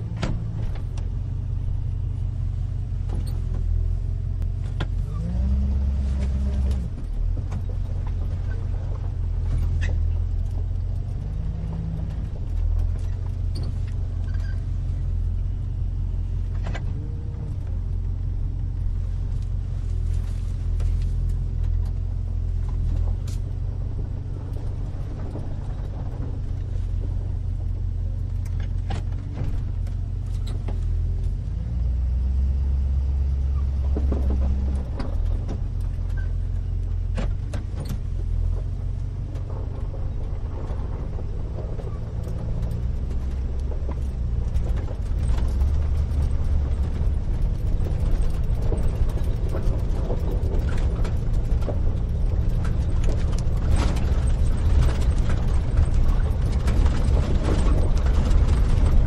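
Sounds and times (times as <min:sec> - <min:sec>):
faint clicks and rattles: 0:00.0 - 0:32.2, 0:33.2 - 0:59.0
truck engine drone: 0:00.0 - 0:59.0.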